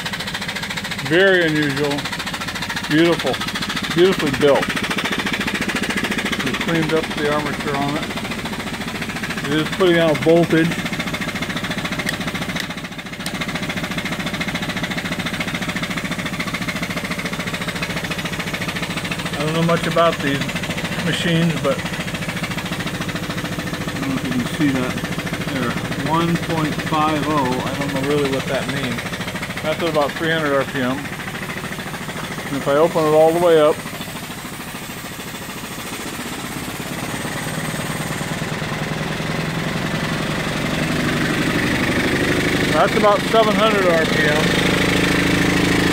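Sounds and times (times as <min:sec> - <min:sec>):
steam engine running: 0:00.0 - 0:45.9.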